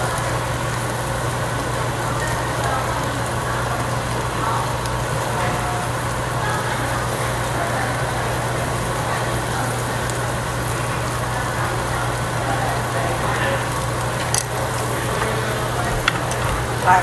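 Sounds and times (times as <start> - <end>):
grill and ventilation hood humming: 0.0 - 17.0
meat cooking on grill: 0.0 - 17.0.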